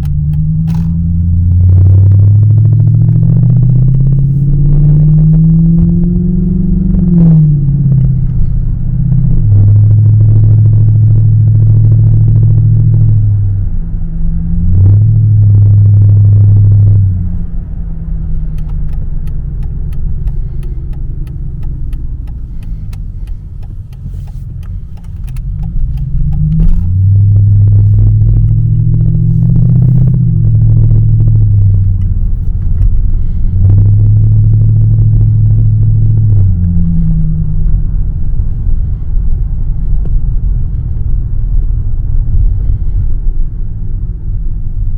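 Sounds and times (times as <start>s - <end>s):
car engine exhaust accelerating: 0.0s - 44.9s.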